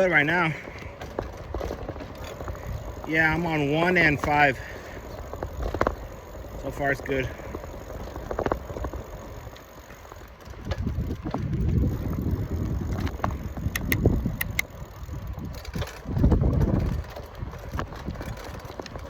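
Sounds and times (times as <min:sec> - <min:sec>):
bicycle clicks: 0:00.0 - 0:19.0
wind buffeting microphone: 0:00.0 - 0:19.0.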